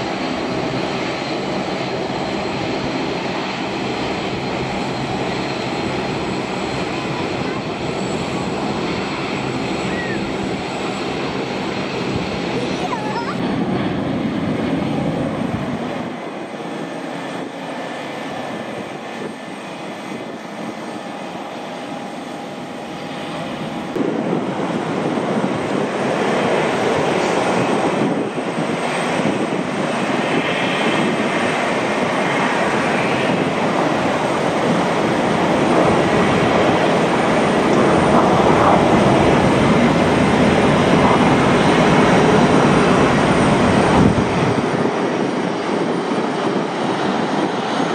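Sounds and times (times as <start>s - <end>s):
jet engine roar with whine: 0.0s - 47.9s.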